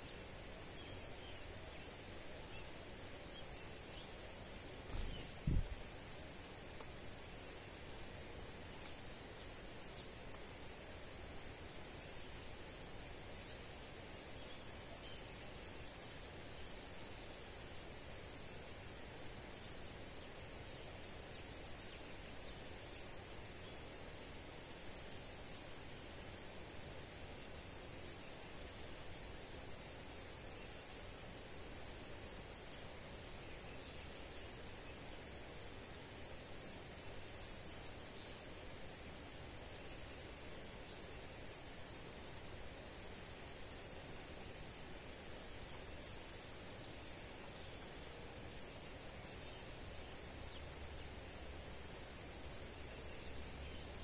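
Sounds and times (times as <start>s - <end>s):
outdoor background noise: 0.0s - 54.0s
small birds chirping: 0.0s - 54.0s.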